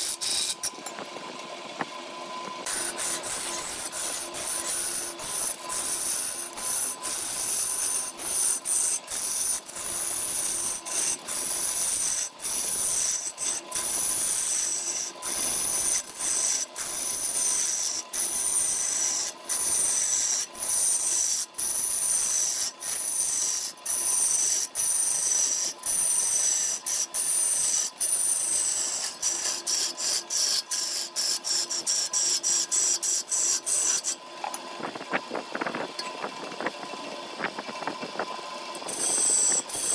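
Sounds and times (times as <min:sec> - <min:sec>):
lathe tool scraping wood: 0:00.0 - 0:01.1, 0:02.6 - 0:34.6, 0:38.2 - 0:39.9.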